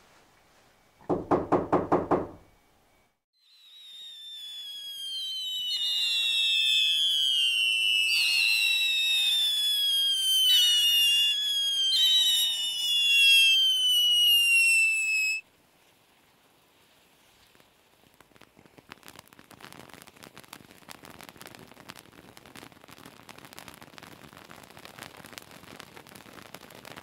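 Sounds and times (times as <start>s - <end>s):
faint hiss: 0.0s - 1.1s, 2.5s - 27.0s
whistling fireworks: 2.8s - 15.5s, 17.1s - 27.0s.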